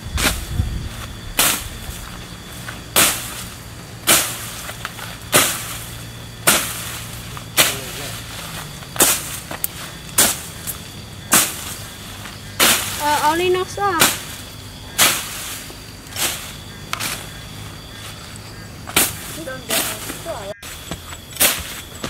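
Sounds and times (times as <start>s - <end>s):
hoe slashing weeds: 0.0s - 22.0s.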